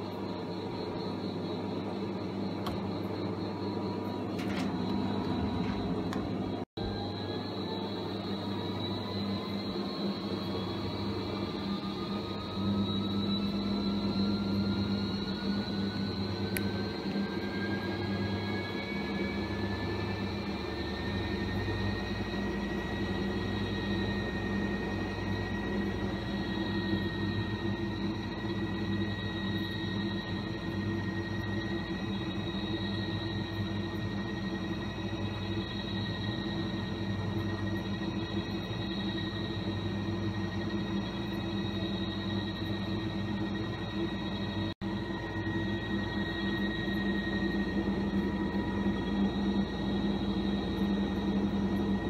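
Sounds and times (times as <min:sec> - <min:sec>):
thin high whine: 0:00.0 - 0:52.0
washing machine humming: 0:00.0 - 0:52.0.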